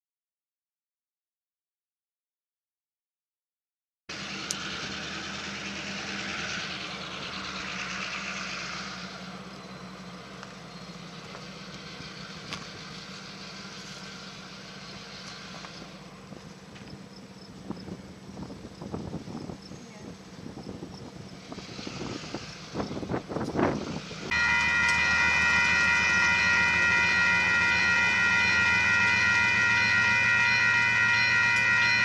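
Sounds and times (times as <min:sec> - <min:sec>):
low engine hum: 0:04.1 - 0:32.0.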